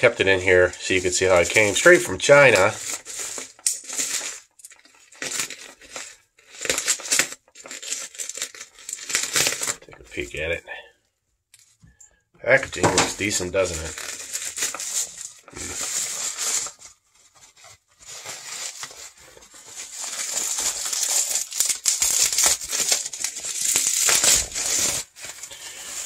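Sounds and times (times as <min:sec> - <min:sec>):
bubble wrap crinkling: 0:00.0 - 0:10.5, 0:12.5 - 0:26.0.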